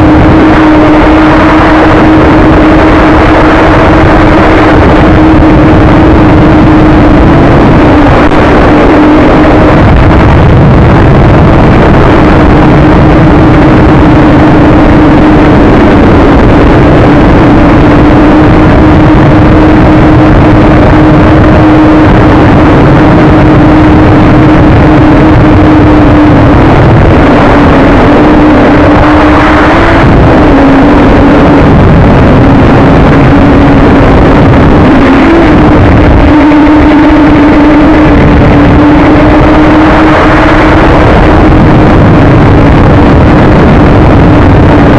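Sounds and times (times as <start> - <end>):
drone motors whining: 0.0 - 44.8
wind buffeting microphone: 0.0 - 44.9.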